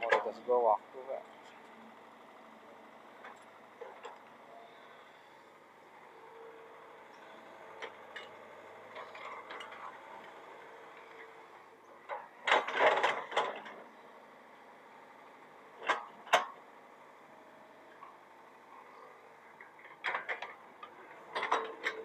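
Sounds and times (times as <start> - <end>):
excavator engine humming: 0.0 - 22.0.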